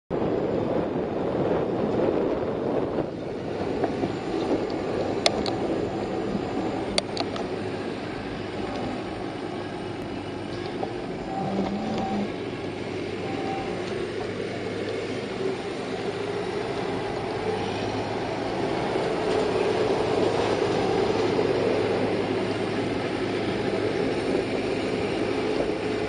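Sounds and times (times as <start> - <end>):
wind buffeting microphone: 0.1 - 26.0.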